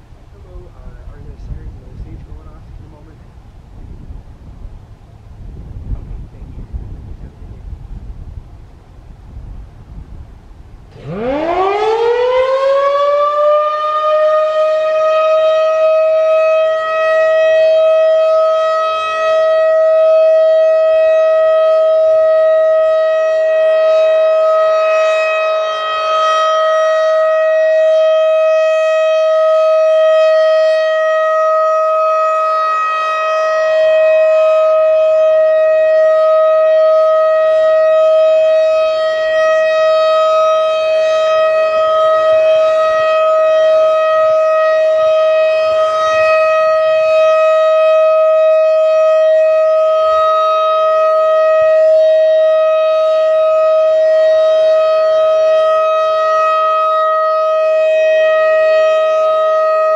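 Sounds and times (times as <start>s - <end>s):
rotating siren alert tone: 10.9s - 59.9s.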